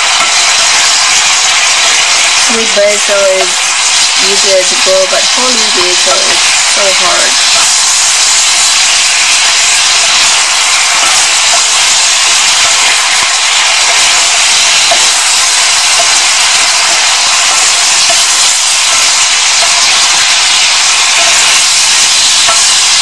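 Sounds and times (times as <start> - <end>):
food stir-frying in hot oil: 0.0 - 23.0.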